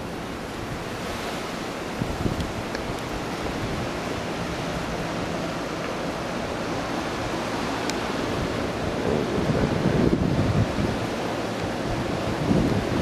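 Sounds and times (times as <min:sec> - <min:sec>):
strong wind through trees: 0:00.0 - 0:13.0
wind gusts buffeting microphone: 0:00.0 - 0:13.0.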